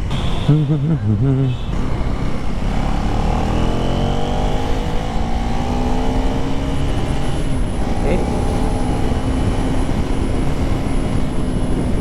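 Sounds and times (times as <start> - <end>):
motorcycle engine accelerating: 0.0 - 12.0
wind rumble on microphone: 0.0 - 12.0.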